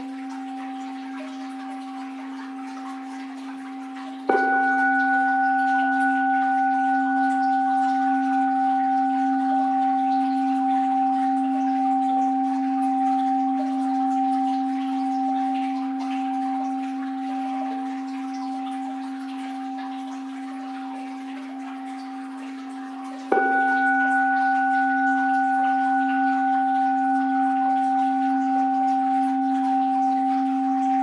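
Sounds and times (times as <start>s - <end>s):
bowl bell ringing: 0.0s - 31.0s
faint water sound: 0.0s - 31.0s.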